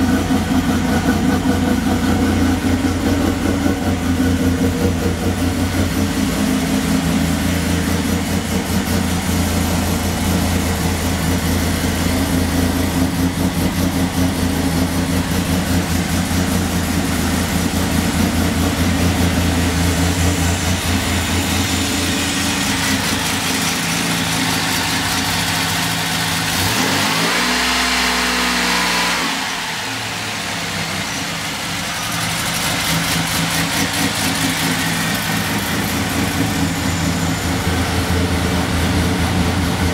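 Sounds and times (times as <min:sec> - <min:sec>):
car engine idling with choppy beat: 0:00.0 - 0:26.8, 0:30.0 - 0:39.9
engine revving: 0:00.0 - 0:39.9.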